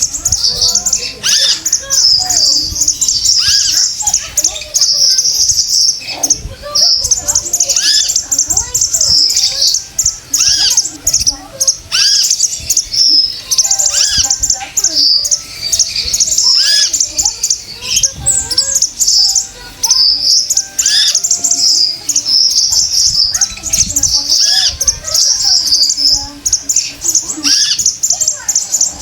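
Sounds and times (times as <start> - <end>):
songbird chirps and trills: 0.0 - 29.0.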